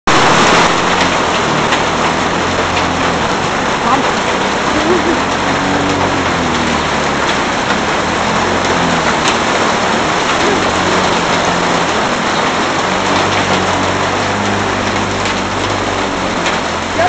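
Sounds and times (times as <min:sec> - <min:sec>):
lawn mower engine running: 0:00.0 - 0:17.0
heavy rain hissing: 0:00.1 - 0:17.0.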